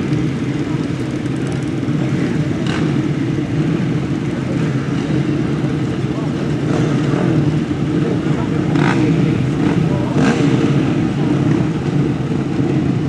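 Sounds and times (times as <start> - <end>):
motocross bike engines droning: 0.0 - 13.0.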